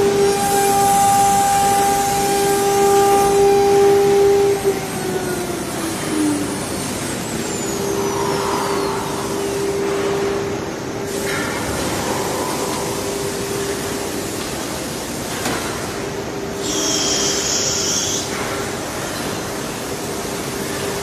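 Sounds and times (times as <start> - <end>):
rush of air and machinery: 0.0 - 21.0.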